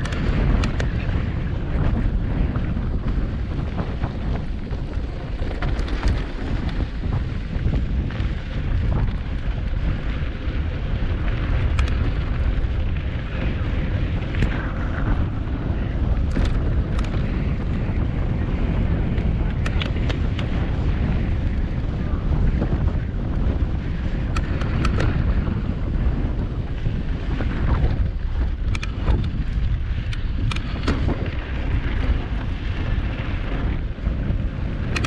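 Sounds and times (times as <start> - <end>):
bike clicks and rattles: 0.0 - 35.0
wind rumble on microphone: 0.0 - 35.0.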